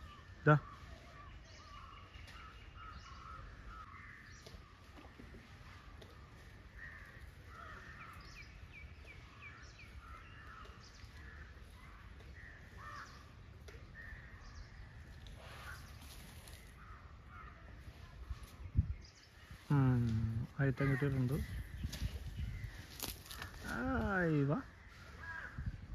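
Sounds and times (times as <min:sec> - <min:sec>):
birds calling: 0:00.0 - 0:25.9.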